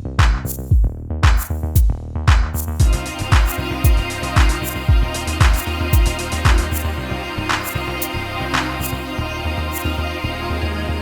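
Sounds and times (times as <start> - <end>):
sustained bass notes: 0.0 - 11.0.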